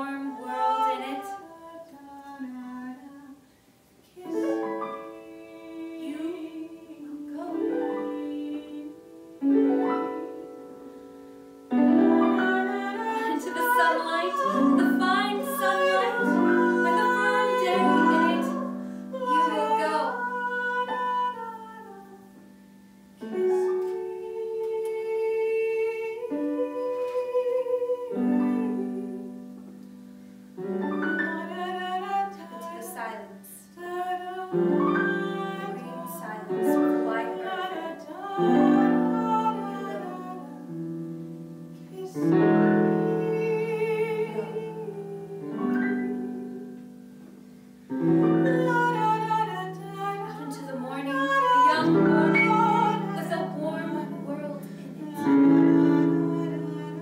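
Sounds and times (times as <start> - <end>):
woman singing with vibrato: 0.0 - 3.5, 4.2 - 10.8, 11.6 - 22.6, 23.2 - 29.6, 30.6 - 47.0, 47.9 - 57.0
slow piano chords: 4.2 - 57.0.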